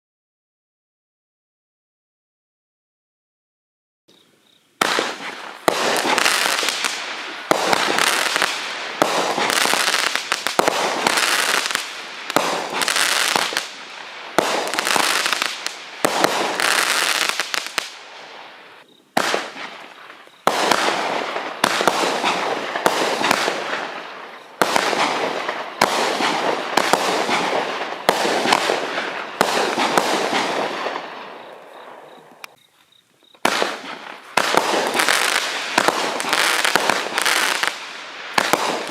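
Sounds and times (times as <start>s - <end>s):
firework crackling fizz: 4.8s - 31.6s, 33.4s - 38.9s
firework bangs: 4.8s - 32.5s, 33.4s - 38.9s.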